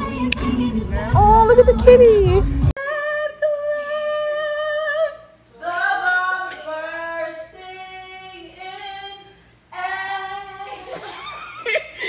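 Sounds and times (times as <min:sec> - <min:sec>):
soft backing music: 0:00.0 - 0:11.1.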